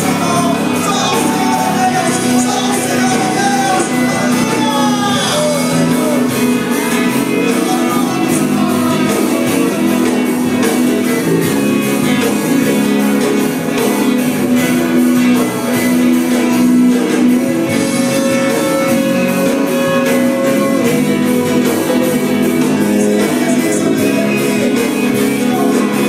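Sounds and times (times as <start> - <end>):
strummed guitar chords: 0.0 - 26.0
worship band playing: 0.0 - 26.0.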